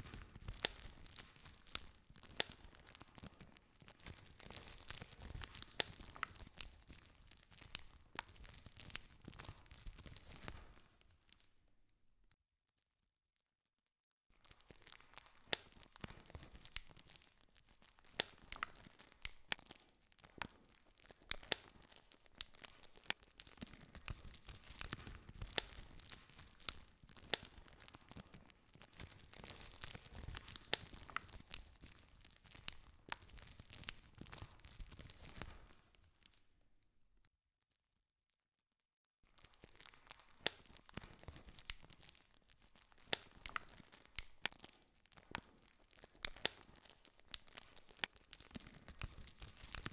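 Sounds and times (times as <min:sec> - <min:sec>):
campfire crackling and popping: 0:00.0 - 0:11.4, 0:14.4 - 0:36.4, 0:39.4 - 0:49.9.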